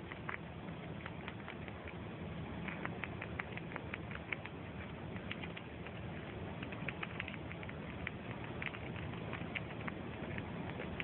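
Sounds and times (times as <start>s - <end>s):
squirrel teeth clicking: 0.0s - 11.0s
steady low hum: 0.0s - 11.0s.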